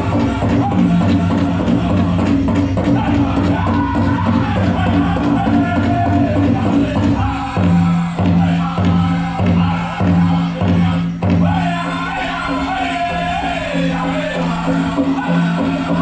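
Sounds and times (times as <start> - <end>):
big drum beating: 0.0 - 16.0
high voices singing: 0.0 - 16.0.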